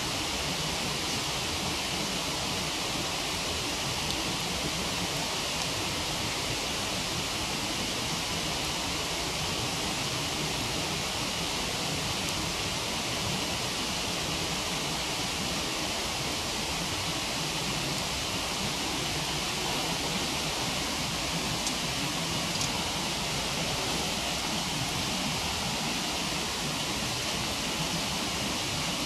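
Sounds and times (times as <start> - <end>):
waterfall rushing: 0.0 - 29.0
wood fire crackle: 0.1 - 29.0.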